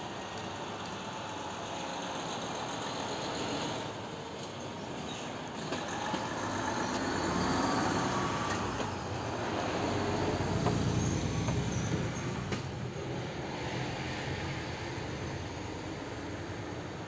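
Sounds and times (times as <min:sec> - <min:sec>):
vehicle rumbling: 0:00.0 - 0:17.0.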